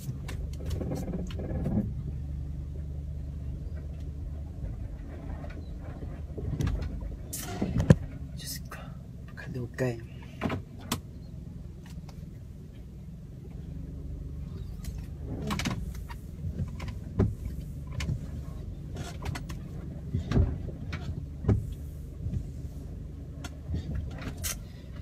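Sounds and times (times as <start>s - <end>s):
car engine and tyres rumbling: 0.0s - 25.0s.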